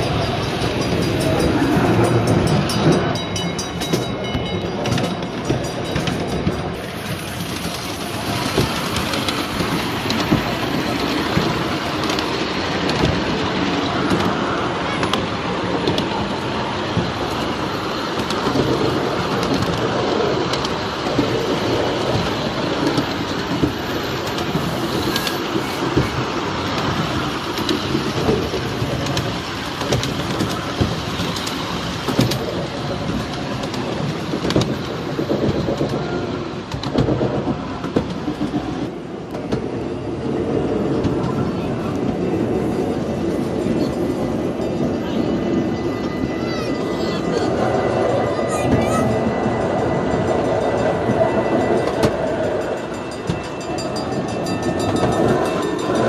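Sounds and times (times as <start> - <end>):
model train rolling rumble: 0.0 - 56.0.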